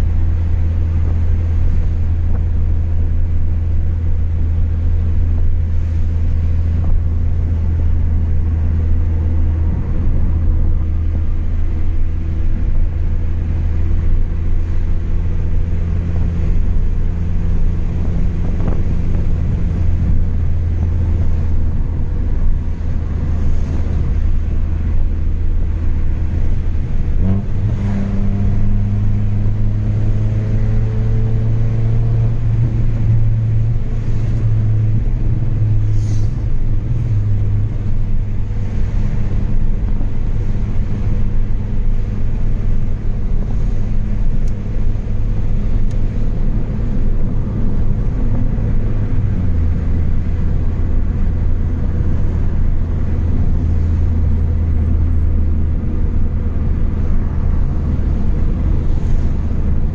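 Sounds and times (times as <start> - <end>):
car engine droning while driving: 0.0 - 59.9.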